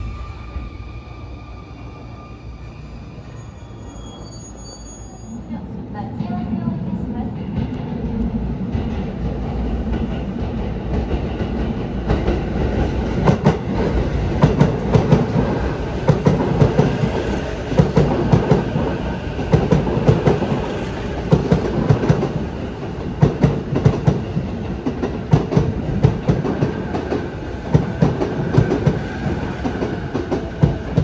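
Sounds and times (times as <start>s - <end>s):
electric train rumbling past: 0.0s - 31.0s.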